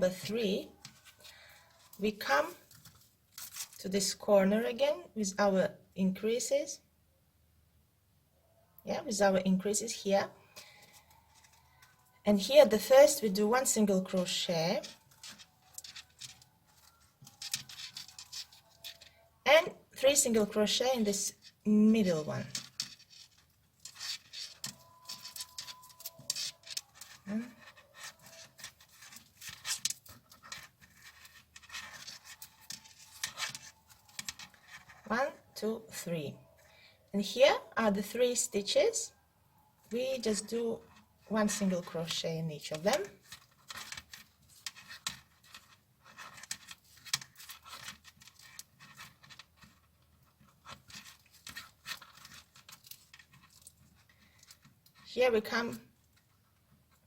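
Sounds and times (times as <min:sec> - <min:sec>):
yarn rustling through crochet stitches: 0:00.0 - 0:06.6, 0:08.9 - 0:36.6, 0:39.8 - 0:57.0.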